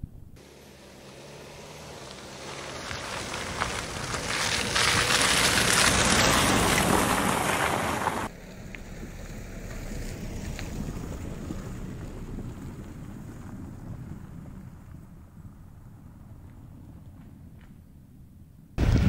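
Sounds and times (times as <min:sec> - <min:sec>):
diesel car driving past: 0:00.4 - 0:17.0
tyres on wet mud: 0:00.4 - 0:17.8.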